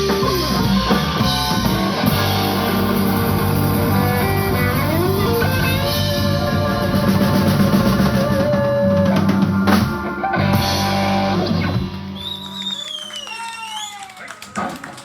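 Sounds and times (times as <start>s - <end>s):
electric guitar sliding notes: 0.0s - 12.2s
drum kit: 0.0s - 12.5s
bass guitar: 0.0s - 12.7s.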